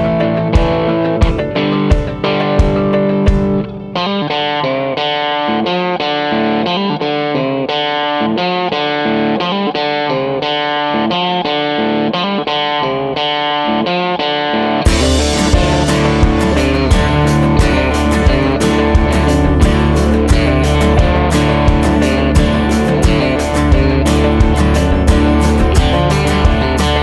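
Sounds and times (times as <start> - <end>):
electric guitar melody: 0.0 - 27.0.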